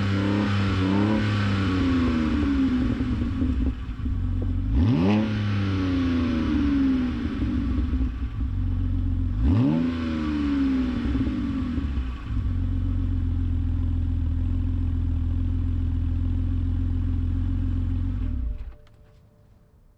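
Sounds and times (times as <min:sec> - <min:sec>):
car engine revving and idling: 0:00.0 - 0:18.7.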